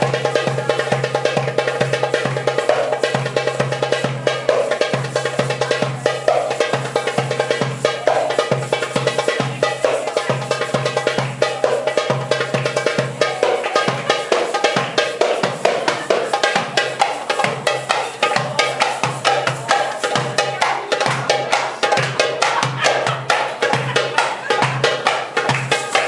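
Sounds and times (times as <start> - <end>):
goblet drum fast rhythm: 0.0 - 26.0.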